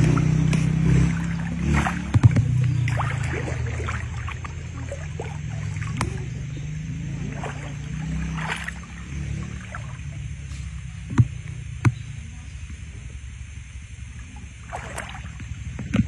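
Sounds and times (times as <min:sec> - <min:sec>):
feet wading through water: 0:00.0 - 0:11.4, 0:14.0 - 0:16.0
low rumble: 0:00.0 - 0:16.0.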